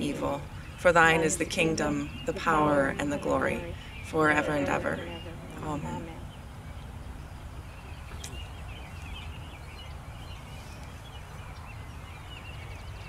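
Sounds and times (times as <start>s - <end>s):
low outdoor rumble: 0.0s - 11.7s
birds chirping: 0.0s - 13.0s.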